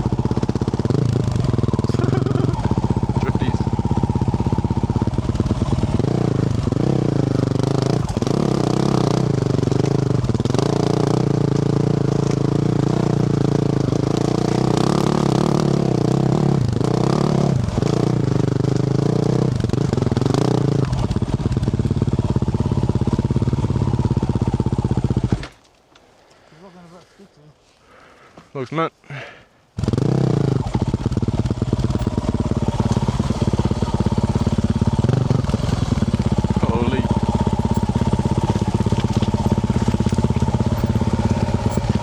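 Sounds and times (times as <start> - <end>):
motorcycle engine revving: 0.0 - 25.6, 29.8 - 42.0.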